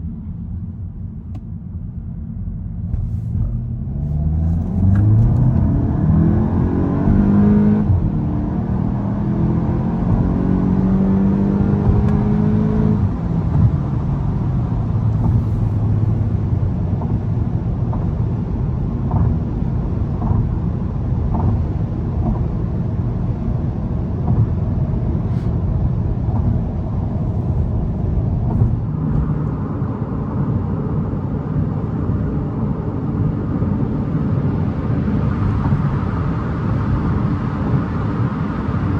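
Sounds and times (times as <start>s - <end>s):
road noise: 0.0s - 38.9s
car engine accelerating: 2.4s - 38.9s.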